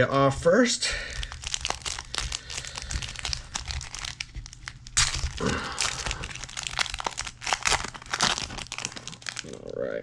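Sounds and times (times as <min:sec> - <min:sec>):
foil pack crinkling: 0:00.9 - 0:09.9
foil pack tearing: 0:01.1 - 0:09.7.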